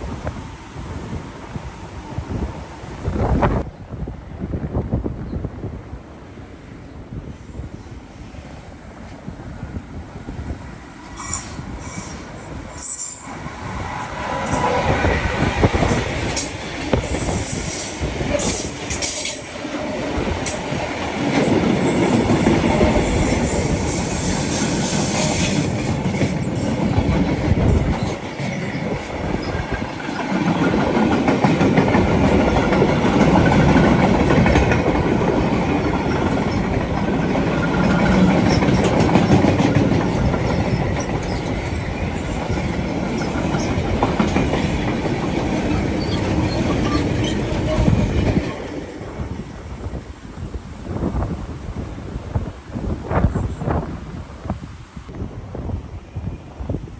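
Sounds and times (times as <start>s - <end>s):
train passing: 0.0s - 56.9s.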